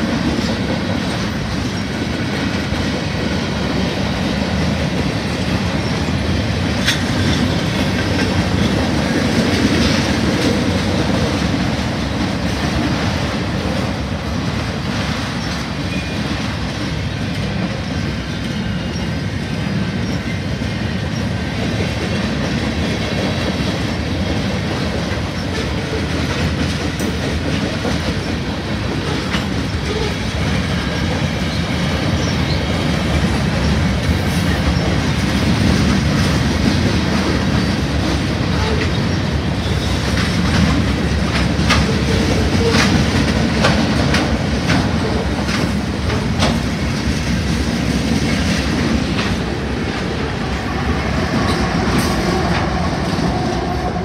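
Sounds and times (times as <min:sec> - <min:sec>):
freight train rumbling past: 0:00.0 - 0:54.0
wheels clacking over rail joints: 0:00.0 - 0:54.0.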